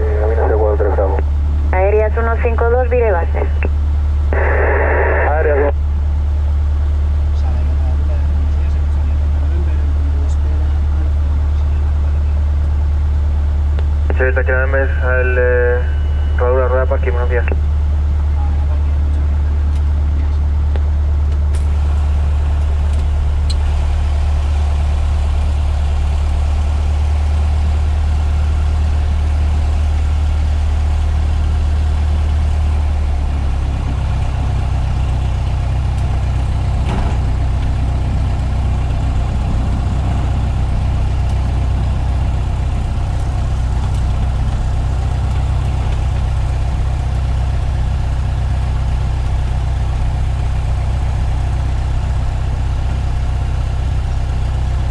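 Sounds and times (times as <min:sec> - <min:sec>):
small plane engine running: 0:00.0 - 0:54.9.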